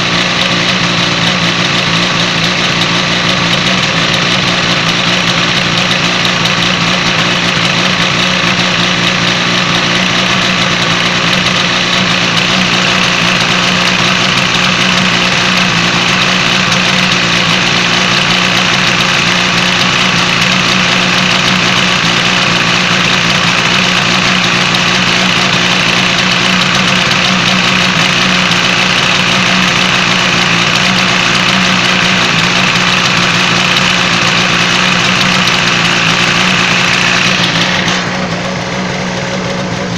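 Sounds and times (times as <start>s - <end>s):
two-stroke engine idling: 0.0s - 39.9s.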